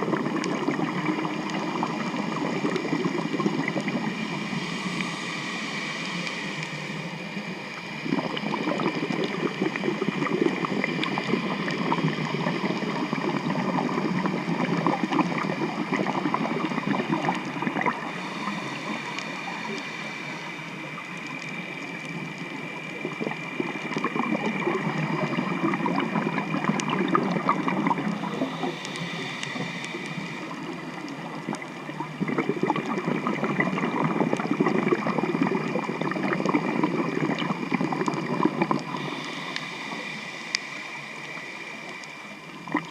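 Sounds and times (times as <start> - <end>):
dense crackling hiss: 0.0 - 42.9
motorboat engine underwater whine: 0.0 - 42.9.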